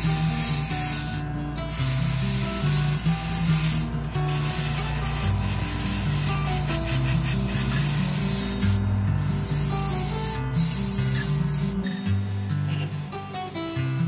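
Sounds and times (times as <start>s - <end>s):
airbrush hissing: 0.0s - 12.0s
background music: 0.0s - 14.0s.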